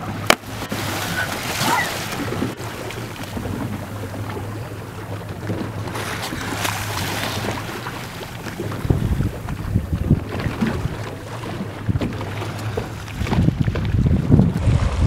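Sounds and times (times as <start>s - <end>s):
boat engine humming: 0.0s - 14.7s
water splashing: 0.0s - 15.0s
wind on microphone: 0.0s - 15.0s.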